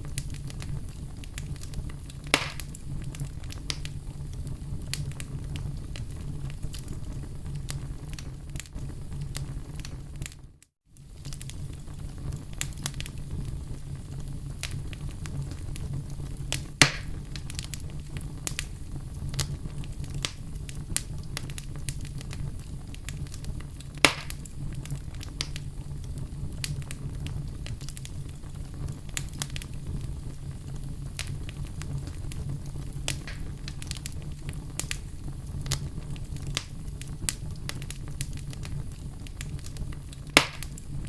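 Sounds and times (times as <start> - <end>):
fire crackling and popping: 0.0 - 41.0
wood fire burning: 0.0 - 41.0.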